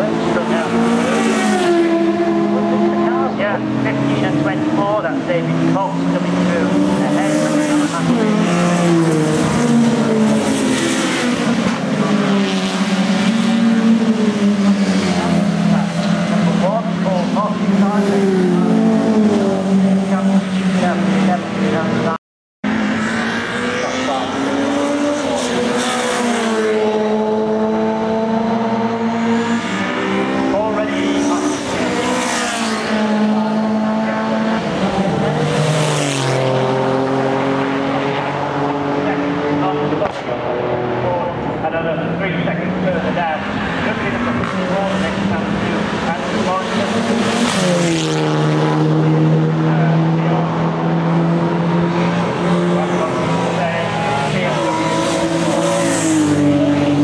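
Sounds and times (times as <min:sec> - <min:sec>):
racing cars passing at speed: 0:00.0 - 0:57.0.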